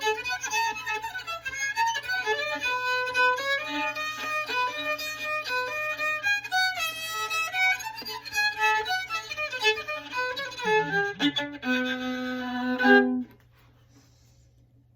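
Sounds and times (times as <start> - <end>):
solo fiddle tune: 0.0 - 13.4.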